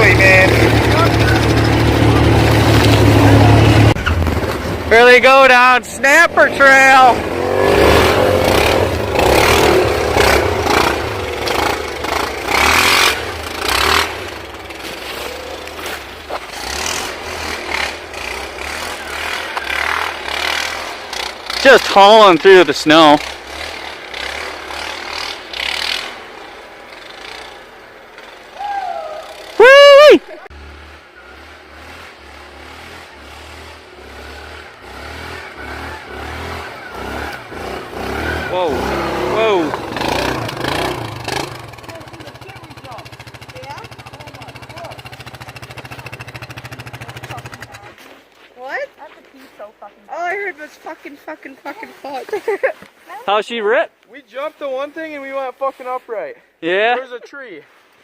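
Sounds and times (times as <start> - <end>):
off-road vehicle engine revving: 0.0 - 48.8.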